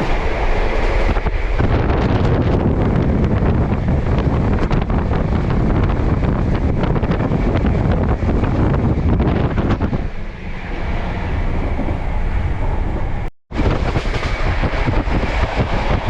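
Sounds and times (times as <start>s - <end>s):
train running at speed: 0.0s - 16.0s.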